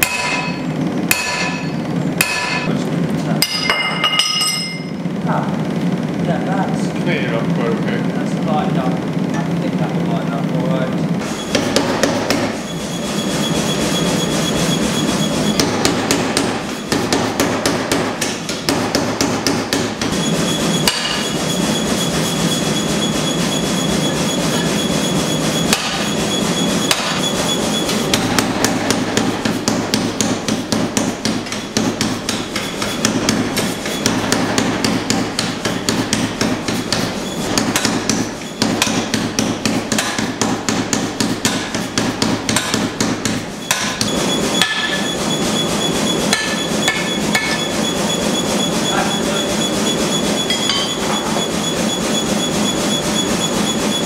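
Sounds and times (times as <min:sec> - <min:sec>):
hammering on hot steel: 0:00.0 - 0:02.7, 0:03.4 - 0:05.0, 0:11.2 - 0:54.0.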